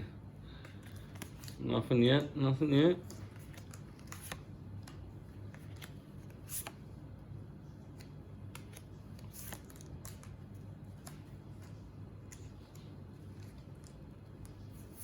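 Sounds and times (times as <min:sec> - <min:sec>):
steady low hum: 0:00.0 - 0:15.0
trading cards clicking and sliding: 0:00.6 - 0:06.9, 0:07.8 - 0:15.0.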